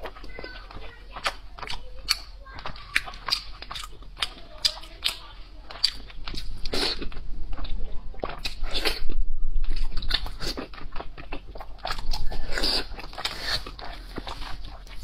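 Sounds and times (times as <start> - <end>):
biting and chewing: 0.0 - 15.0.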